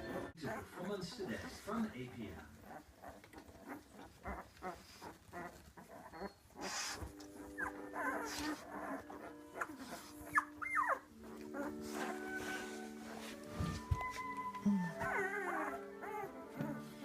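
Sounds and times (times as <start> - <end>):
puppies whimpering and squeaking: 0.0 - 17.0
soft classical music on radio: 0.0 - 17.0.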